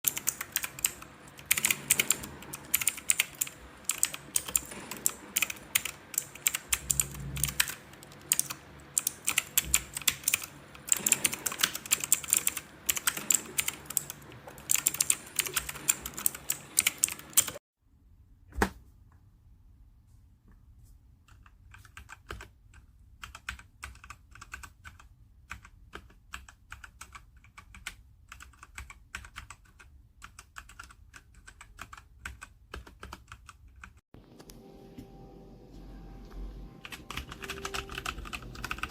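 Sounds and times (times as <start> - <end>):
typing on mechanical keyboard: 0.1 - 17.6, 21.3 - 34.0, 36.8 - 38.9.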